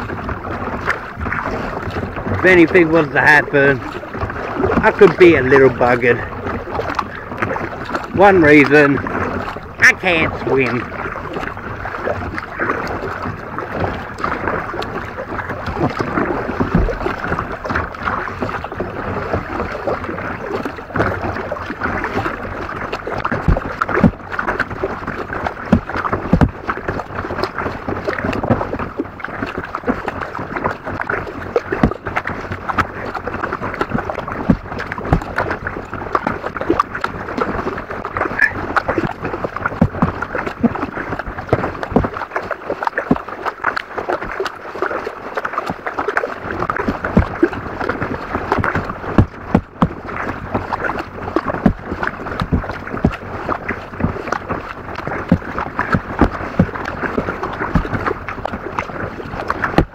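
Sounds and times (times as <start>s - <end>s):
paddle splashing water: 0.0s - 59.9s
water lapping at hull: 0.0s - 59.9s.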